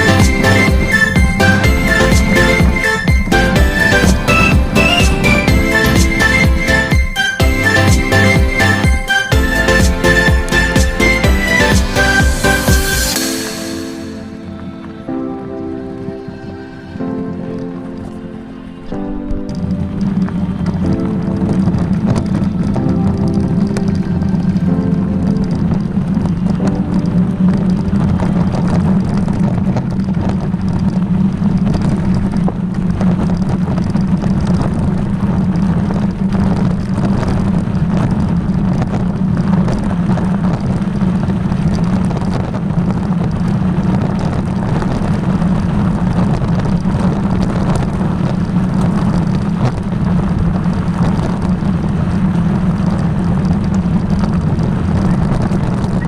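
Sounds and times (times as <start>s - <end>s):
road noise: 0.0s - 56.0s
vehicle engine: 0.0s - 56.0s.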